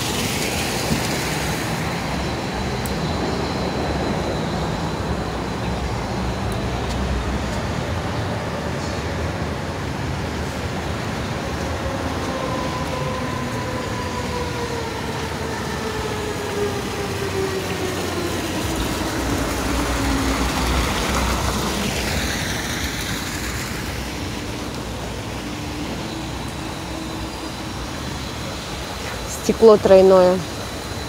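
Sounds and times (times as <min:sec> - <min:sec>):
street traffic: 0:00.0 - 0:31.0
tram motor whine: 0:00.0 - 0:31.0.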